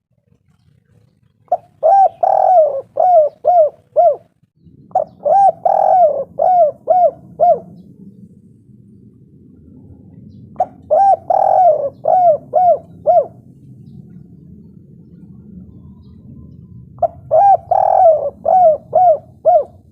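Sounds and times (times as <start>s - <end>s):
faint low hum: 0.0s - 19.9s
dove cooing: 1.0s - 8.2s, 10.2s - 19.9s.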